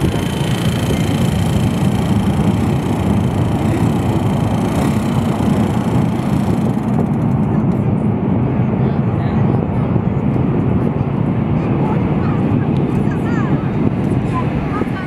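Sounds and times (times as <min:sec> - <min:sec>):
high engine whine: 0:00.0 - 0:15.0
jet engines roaring: 0:00.0 - 0:15.0.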